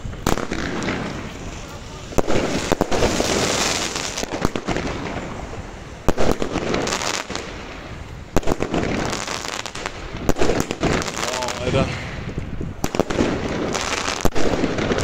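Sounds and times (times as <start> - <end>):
fireworks bangs with hiss: 0.0 - 15.0.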